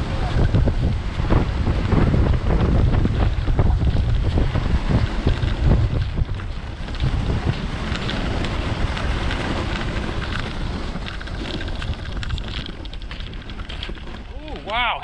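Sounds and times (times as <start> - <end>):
wind buffeting microphone: 0.0 - 15.0
footsteps crunching on snow: 1.9 - 15.0.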